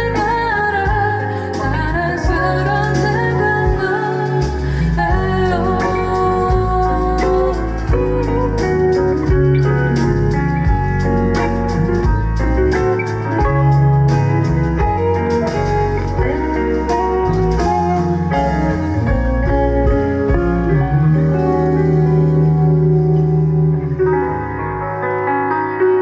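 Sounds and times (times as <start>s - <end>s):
bass line: 0.0s - 25.4s.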